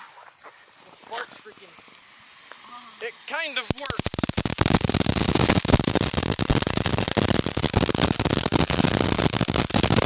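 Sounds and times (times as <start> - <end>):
firework crackling: 0.0 - 10.0.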